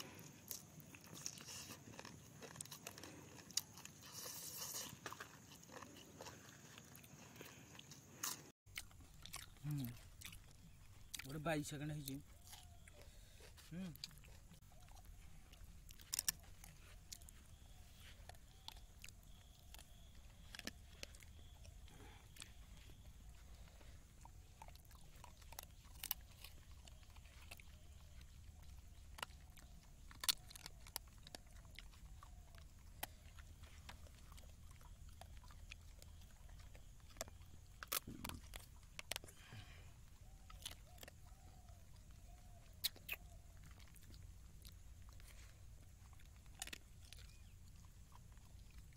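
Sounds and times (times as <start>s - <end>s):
dog crunching bones: 0.0s - 48.9s.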